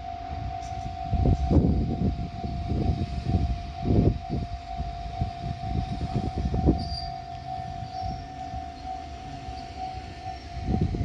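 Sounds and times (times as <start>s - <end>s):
electric train rumbling past: 0.0s - 11.0s
level-crossing alarm ringing: 0.0s - 11.0s.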